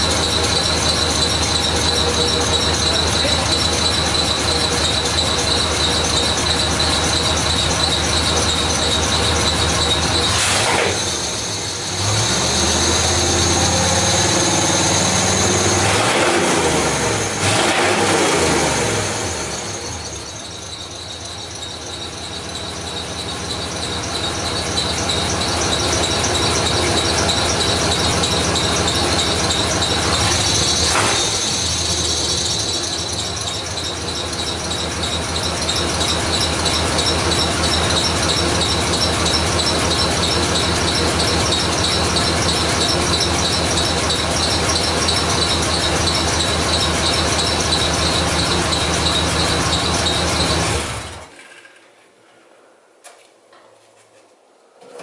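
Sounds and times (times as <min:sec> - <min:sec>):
high-pitched squeal: 0:00.0 - 0:51.3
truck engine running: 0:00.0 - 0:51.3.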